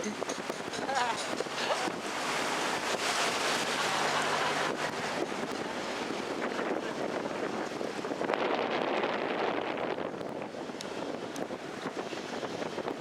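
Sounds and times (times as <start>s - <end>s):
boat moving through water: 0.0s - 13.0s
wind buffeting microphone: 0.0s - 13.0s.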